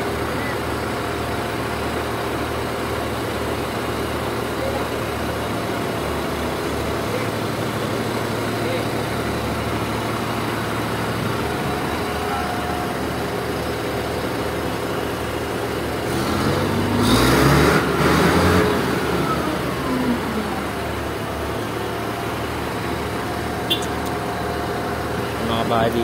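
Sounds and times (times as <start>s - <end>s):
heavy diesel engine running: 0.0s - 26.0s
engine passing close: 3.5s - 26.0s.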